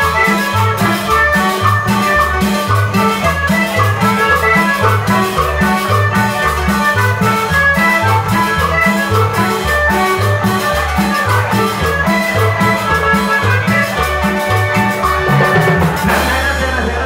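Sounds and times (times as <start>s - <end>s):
metal scraper percussion: 0.0s - 16.9s
accordion melody: 0.0s - 17.0s
bass line: 0.0s - 17.0s
guitar: 0.0s - 17.0s
tropical dance band music: 0.0s - 17.0s.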